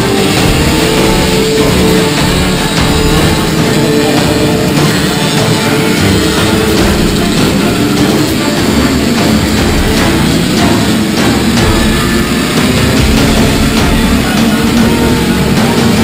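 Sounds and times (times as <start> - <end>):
heavy metal rock music: 0.0 - 16.0.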